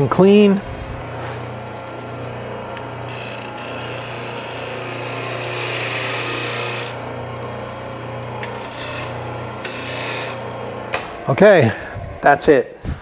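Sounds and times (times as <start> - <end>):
tool rasping on spinning wood: 0.0 - 12.8
wood lathe motor hum: 0.0 - 13.0.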